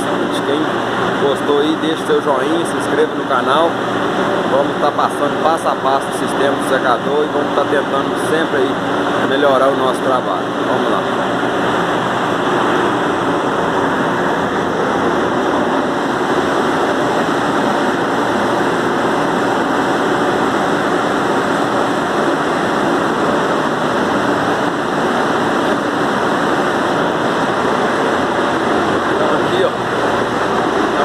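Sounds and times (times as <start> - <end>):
dryer fan air rush: 0.0 - 31.0
low mechanical hum: 0.0 - 31.0.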